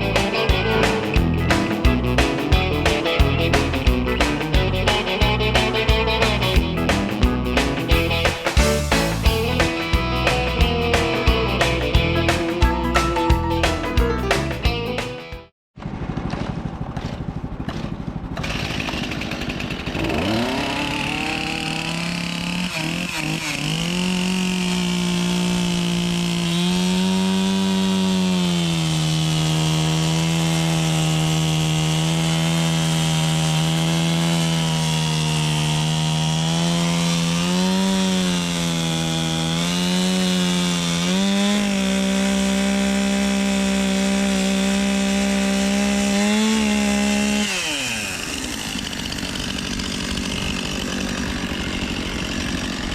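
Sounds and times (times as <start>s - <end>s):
band blade rasping through log: 0.0s - 13.8s, 16.4s - 52.9s
sawmill gas engine running: 0.0s - 15.2s, 15.8s - 52.9s.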